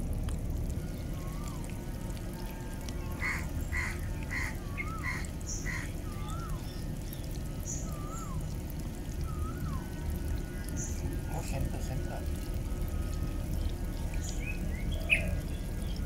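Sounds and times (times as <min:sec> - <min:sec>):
steady low rumble: 0:00.0 - 0:16.0
whistled bird notes: 0:00.7 - 0:16.0.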